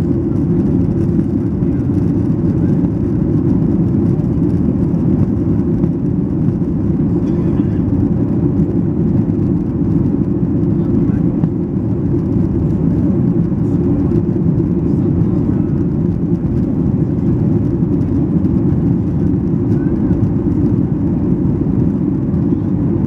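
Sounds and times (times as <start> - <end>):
jet engines roaring in cabin: 0.0 - 23.0
rushing airflow: 0.0 - 23.0.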